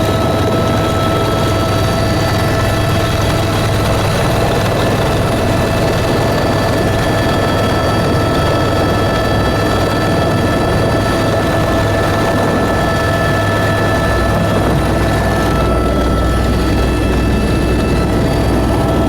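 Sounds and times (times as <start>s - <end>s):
aircraft engine drone with whine: 0.0s - 19.0s.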